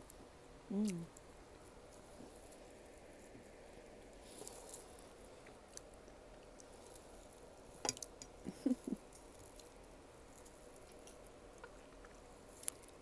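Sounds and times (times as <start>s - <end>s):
person chewing cake: 0.8s - 13.0s.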